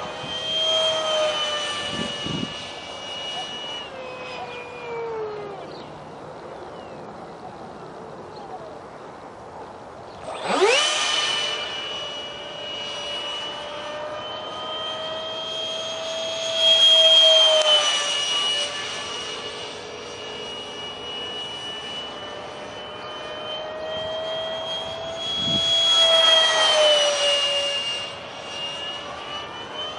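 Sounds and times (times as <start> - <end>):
electric ducted fan whine: 0.0 - 29.9.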